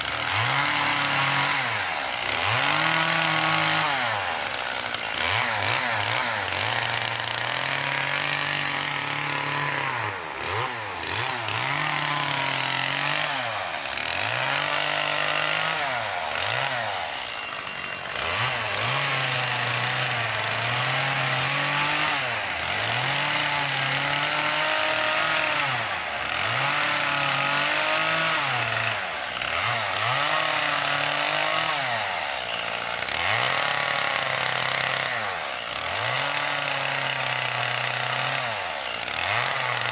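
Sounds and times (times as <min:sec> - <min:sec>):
chainsaw cutting wood hiss: 0:00.0 - 0:39.9
chainsaw engine revving: 0:00.0 - 0:39.9.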